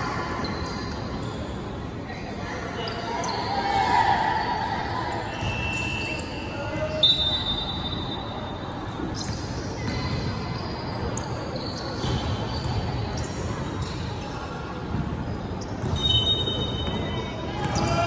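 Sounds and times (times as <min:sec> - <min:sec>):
voices echoing: 0:00.0 - 0:18.0.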